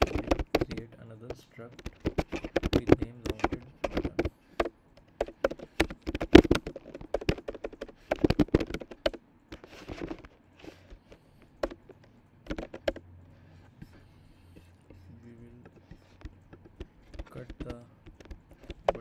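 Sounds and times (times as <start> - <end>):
typing on computer keyboard: 0.0 - 13.1, 15.0 - 19.0.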